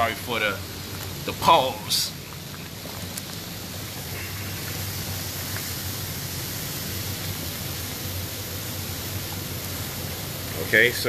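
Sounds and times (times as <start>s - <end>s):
hot tub jets churning water: 0.0s - 11.0s.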